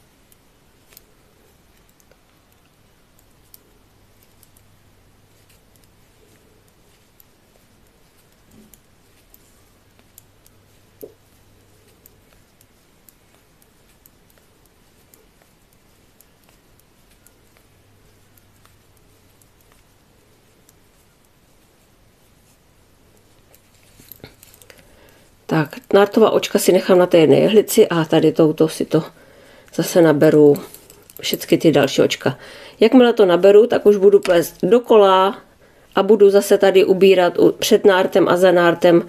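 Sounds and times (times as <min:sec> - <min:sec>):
knitting needles clicking: 0:00.3 - 0:27.1, 0:28.0 - 0:32.4, 0:33.8 - 0:34.8.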